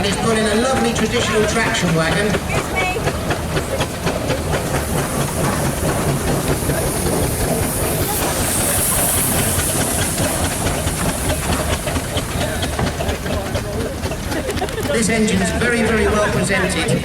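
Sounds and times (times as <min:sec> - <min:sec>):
low engine rumble: 0:00.0 - 0:17.0
steam engine hissing: 0:00.0 - 0:17.0.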